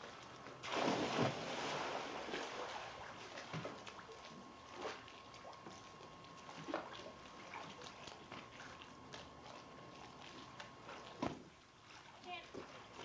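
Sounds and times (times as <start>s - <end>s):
pool water lapping and splashing: 0.0s - 13.0s.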